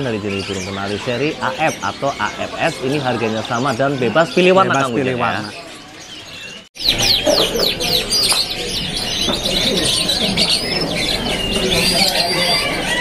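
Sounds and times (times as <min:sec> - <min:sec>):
canaries chirping and singing: 0:00.0 - 0:13.0.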